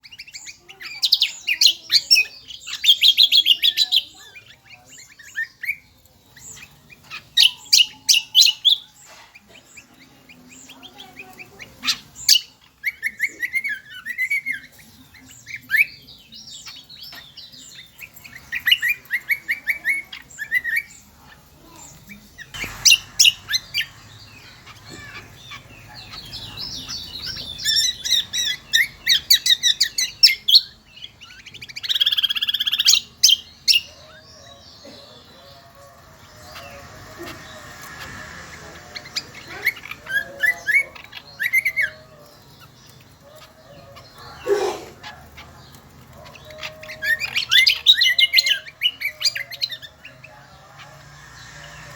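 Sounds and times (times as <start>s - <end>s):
songbird chirping and trilling: 0.0s - 51.9s.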